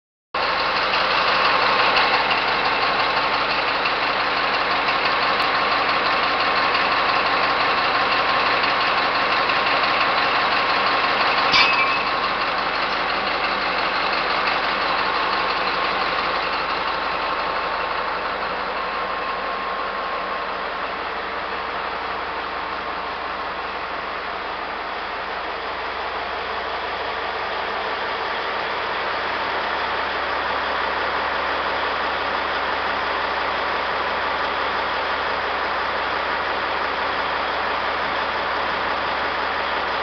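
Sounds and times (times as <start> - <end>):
diesel truck engine idling: 0.4 - 40.0.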